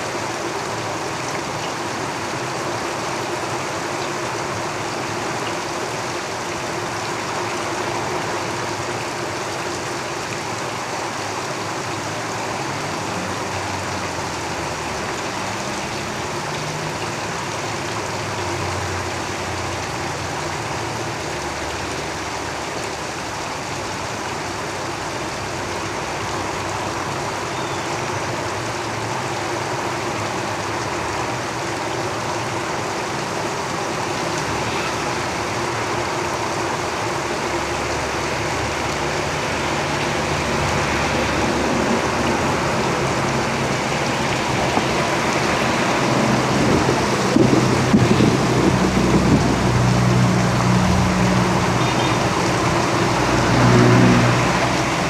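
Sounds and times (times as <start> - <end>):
heavy rain on a tin roof: 0.0 - 55.0
road traffic rumble: 0.0 - 55.0.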